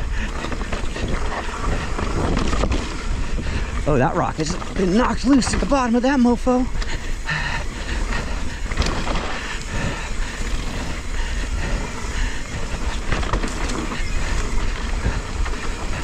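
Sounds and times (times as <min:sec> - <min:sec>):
bike rattling: 0:00.0 - 0:16.0
wind buffeting microphone: 0:00.0 - 0:16.0.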